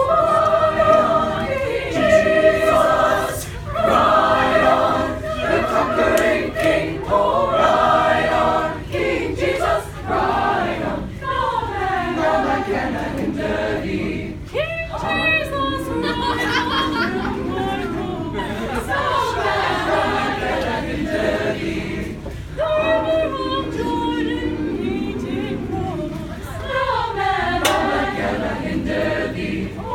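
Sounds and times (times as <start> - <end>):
choir singing a cappella: 0.0 - 29.9.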